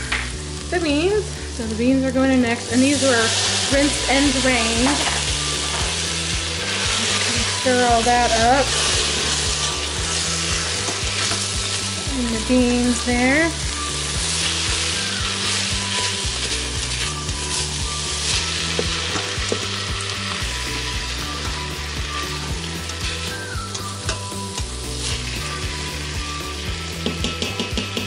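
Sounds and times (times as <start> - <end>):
food sizzling in a pot: 0.0 - 28.0.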